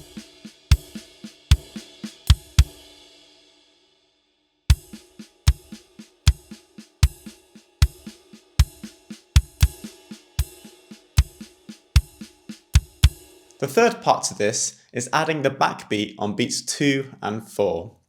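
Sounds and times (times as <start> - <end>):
drum kit groove: 0.0 - 3.2, 4.7 - 17.0.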